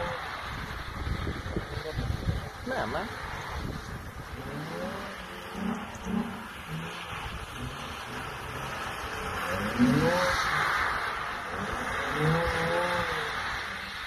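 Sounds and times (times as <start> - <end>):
sports car engine revving: 0.0 - 14.0
tyres hissing on wet tarmac: 0.0 - 14.0.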